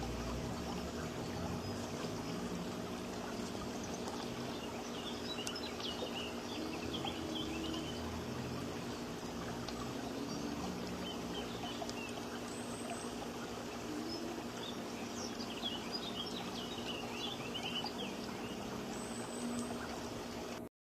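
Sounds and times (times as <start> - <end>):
small birds chirping: 0.0 - 20.6
steady background hiss: 0.0 - 20.7.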